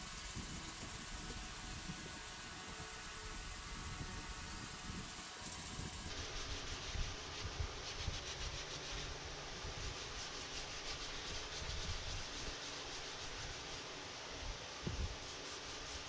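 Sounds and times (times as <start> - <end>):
sanding sponge rubbing plastic: 0.0 - 14.0, 15.0 - 16.0.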